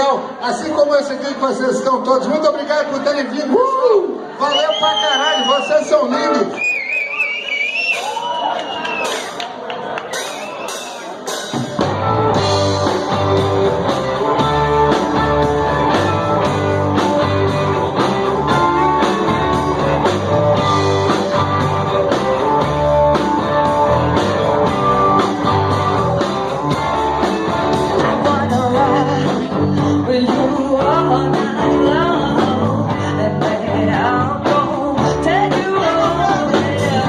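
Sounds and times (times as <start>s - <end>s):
live rock band playing: 5.8s - 37.0s.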